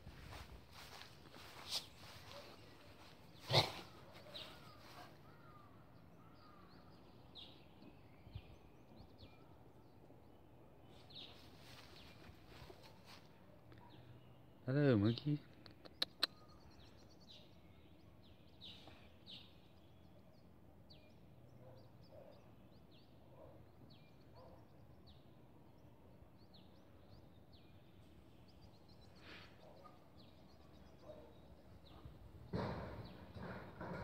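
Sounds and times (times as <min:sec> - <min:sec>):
bird chirping: 0:00.3 - 0:34.0.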